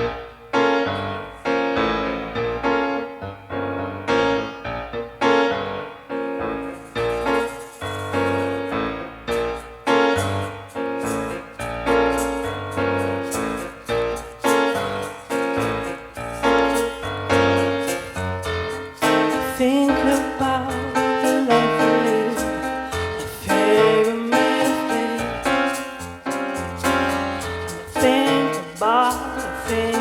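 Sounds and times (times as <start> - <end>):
piano chords ringing: 0.0 - 30.0.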